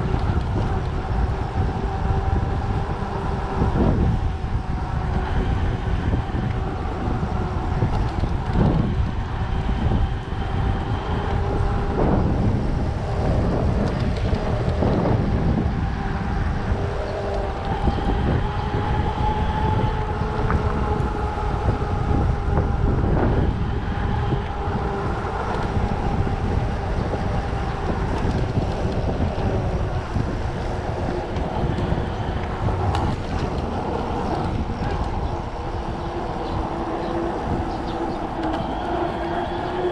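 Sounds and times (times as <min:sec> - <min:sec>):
mountain bike rumbling and rattling: 0:00.0 - 0:39.9
wind rushing over microphone: 0:00.0 - 0:39.9.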